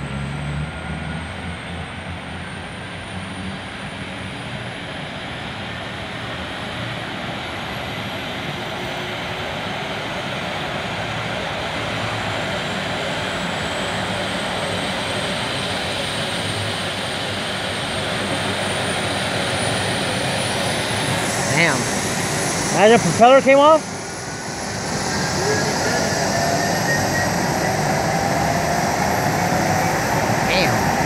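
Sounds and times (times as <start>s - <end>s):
helicopter turbine whine: 0.0s - 31.0s.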